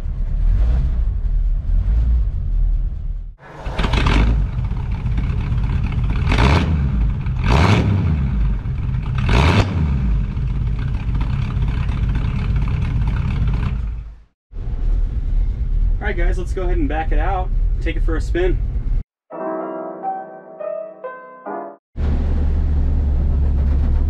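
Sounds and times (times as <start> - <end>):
car engine idling and revving: 0.0 - 17.9, 22.0 - 24.0.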